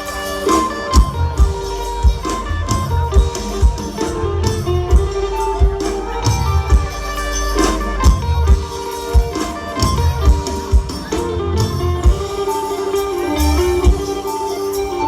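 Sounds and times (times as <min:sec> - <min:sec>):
live band melodic lines: 0:00.0 - 0:15.0
steady drum beat: 0:00.0 - 0:15.0.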